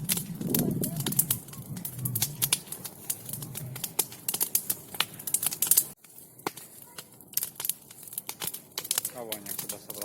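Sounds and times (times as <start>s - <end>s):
bonfire crackling and popping: 0.0s - 10.0s.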